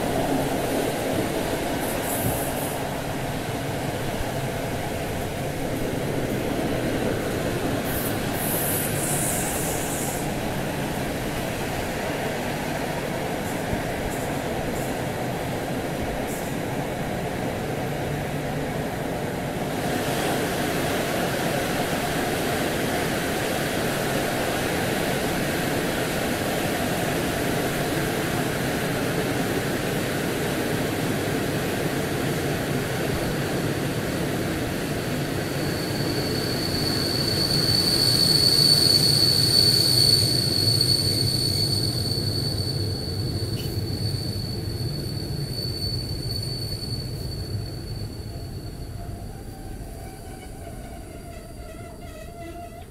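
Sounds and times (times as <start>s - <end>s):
train wheels rumbling on track: 0.0s - 52.9s.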